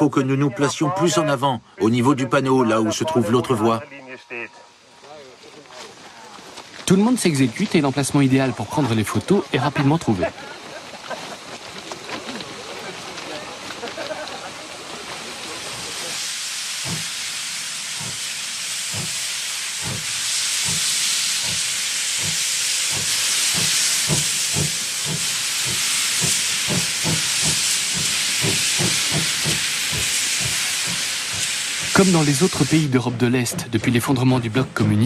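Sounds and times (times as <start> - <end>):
hiss of escaping steam: 1.2 - 34.4
steam locomotive exhaust beats: 1.6 - 35.0.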